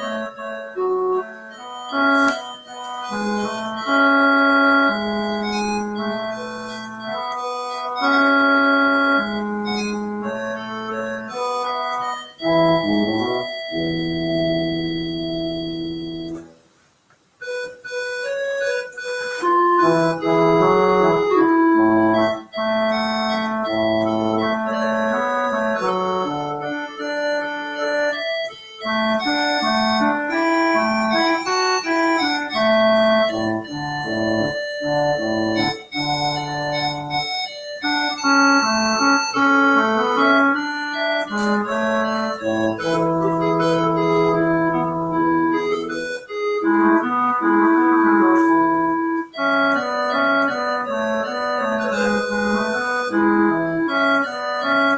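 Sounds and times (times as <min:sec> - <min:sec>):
organ music: 0:00.0 - 0:16.6, 0:17.4 - 0:54.9.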